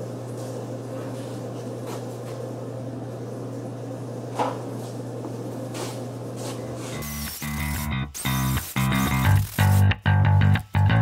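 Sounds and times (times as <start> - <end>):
low workshop hum: 0.0 - 10.6.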